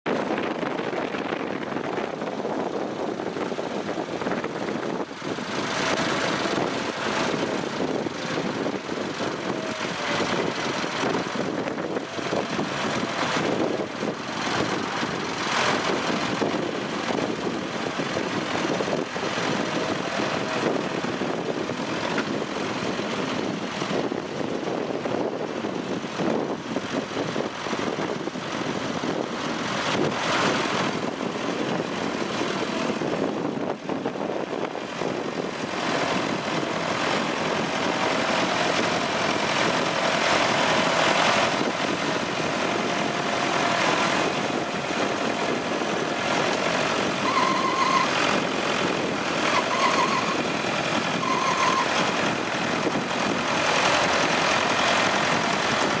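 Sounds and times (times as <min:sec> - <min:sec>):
tractor engine running under load: 0:00.1 - 0:56.0.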